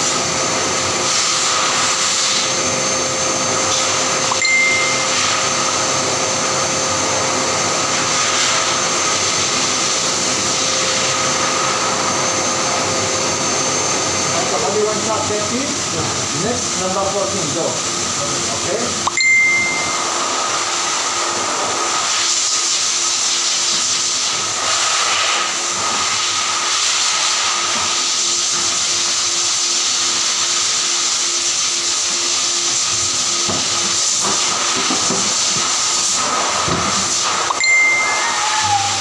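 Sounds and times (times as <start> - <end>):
blow dryer hissing: 0.0 - 39.0.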